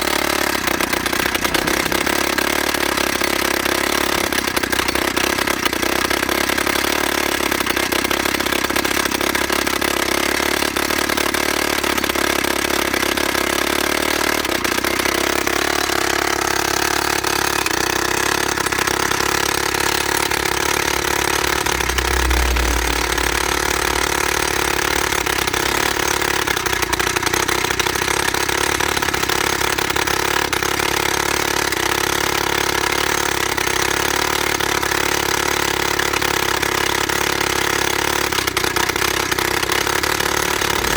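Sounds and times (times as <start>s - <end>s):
two-stroke petrol engine running: 0.0s - 40.9s.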